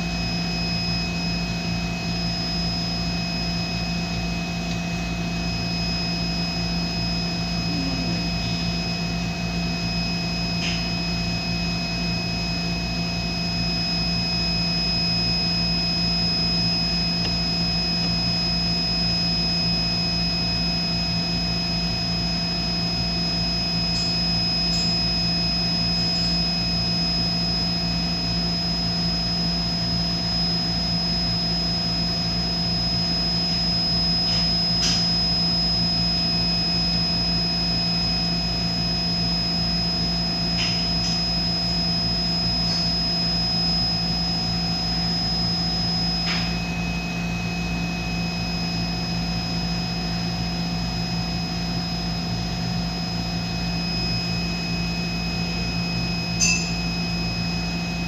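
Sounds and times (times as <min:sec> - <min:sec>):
machine running steadily: 0:00.0 - 0:58.0.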